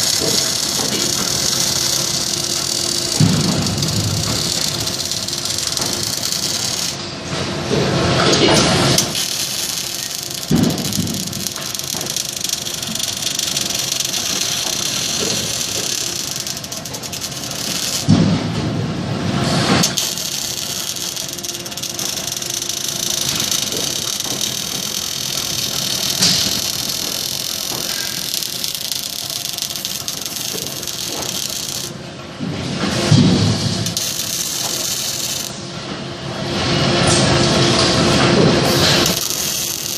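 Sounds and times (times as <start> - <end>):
welding hissing and crackling: 0.0 - 35.6, 38.3 - 39.9.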